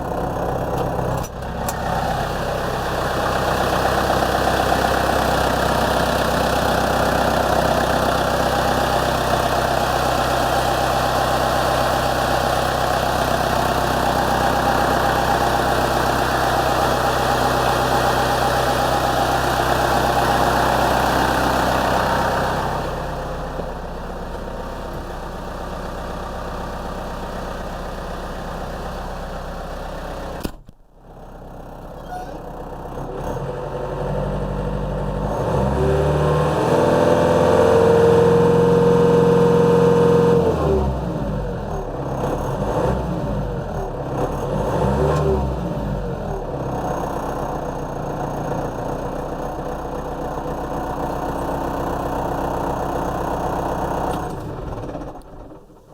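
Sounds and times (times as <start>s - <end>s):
diesel tractor engine running: 0.0s - 55.9s.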